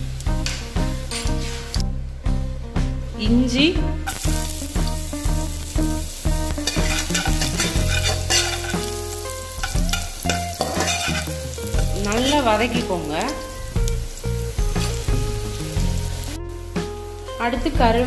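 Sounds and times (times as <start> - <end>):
hot oil sizzling: 0.0 - 2.0, 4.0 - 18.0
background music with steady beat: 0.0 - 18.0.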